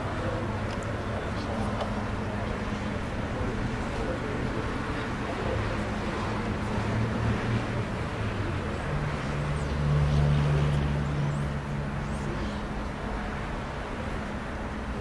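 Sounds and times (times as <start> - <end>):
open-air background noise: 0.0 - 15.0.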